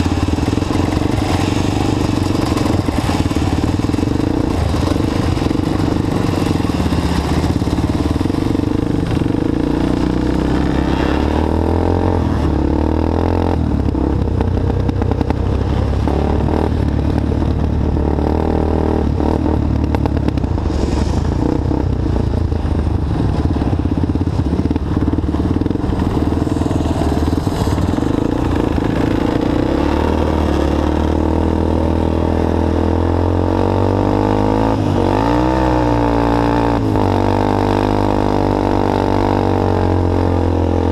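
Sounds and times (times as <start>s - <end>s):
quad bike engine revving: 0.0s - 20.6s, 23.4s - 40.9s.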